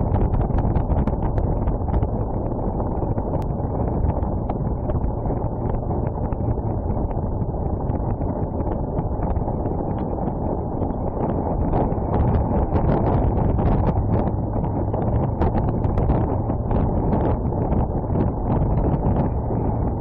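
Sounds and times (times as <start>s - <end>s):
motorcycle riding slowly: 0.0s - 20.0s
wind noise on microphone: 0.0s - 20.0s.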